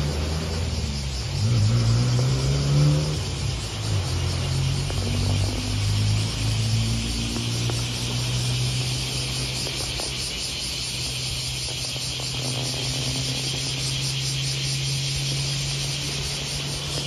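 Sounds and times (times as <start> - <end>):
insects buzzing chorus: 0.0 - 17.0.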